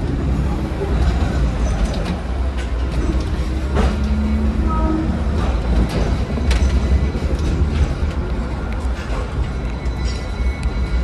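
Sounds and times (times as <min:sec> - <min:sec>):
electric tram rumbling on rails: 0:00.0 - 0:11.0.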